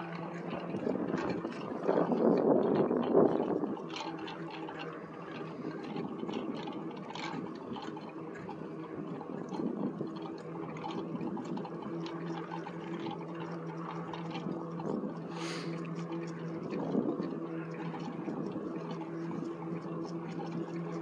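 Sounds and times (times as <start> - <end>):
electric motor hum: 0.0 - 21.0
wind: 0.0 - 21.0.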